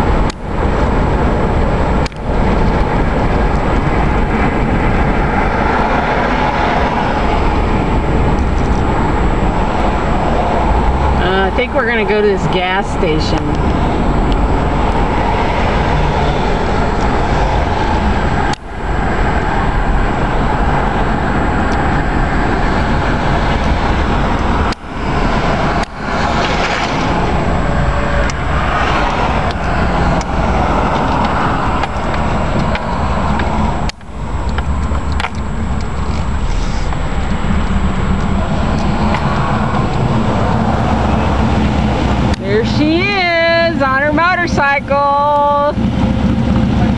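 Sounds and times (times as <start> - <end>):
vehicle road and wind noise: 0.0 - 46.9.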